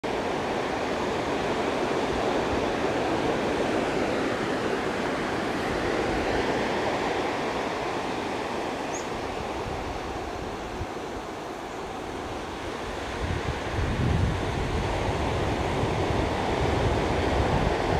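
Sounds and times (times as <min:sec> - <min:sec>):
surf rushing: 0:00.0 - 0:17.9
wind: 0:00.0 - 0:17.9.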